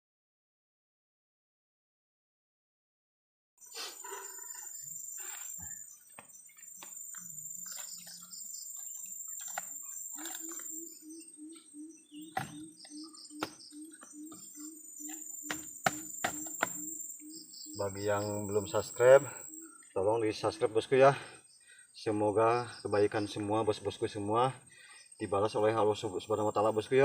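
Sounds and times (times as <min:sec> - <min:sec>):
insects trilling: 0:03.6 - 0:27.0
small birds chirping: 0:03.6 - 0:27.0.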